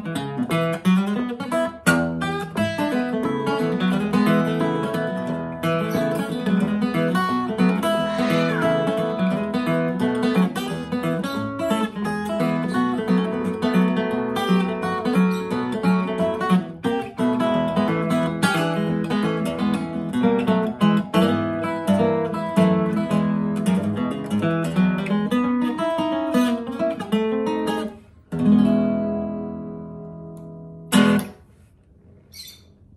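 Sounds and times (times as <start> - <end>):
acoustic guitar fingerstyle melody: 0.0 - 32.6.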